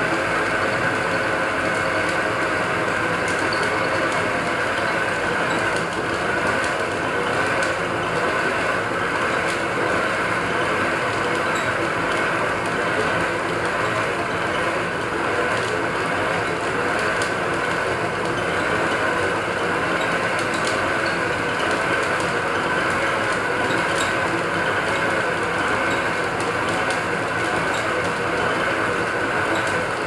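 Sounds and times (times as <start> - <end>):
metal lathe running: 0.0 - 30.0.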